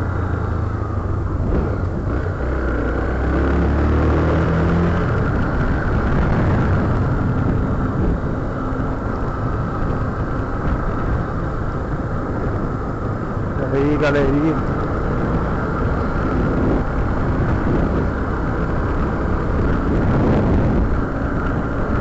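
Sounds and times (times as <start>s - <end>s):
motorcycle engine drone: 0.0s - 22.0s
wind buffeting microphone: 0.0s - 22.0s.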